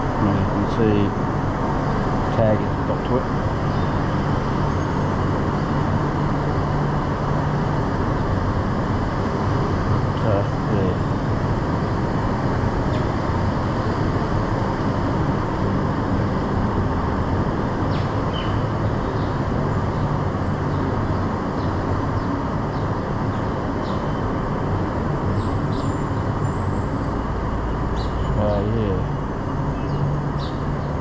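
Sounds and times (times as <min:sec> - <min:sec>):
air conditioning units humming: 0:00.0 - 0:31.0.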